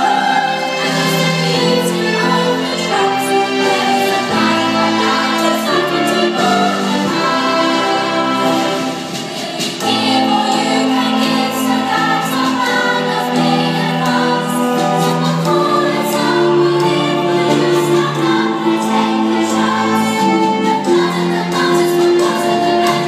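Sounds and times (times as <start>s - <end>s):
children's choir singing in harmony: 0.0s - 23.0s.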